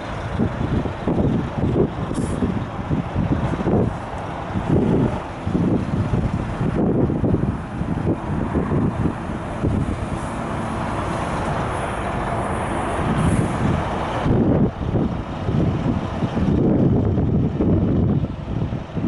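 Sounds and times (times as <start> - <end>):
truck diesel engine running: 0.0 - 19.0
wind buffeting microphone: 0.0 - 19.0.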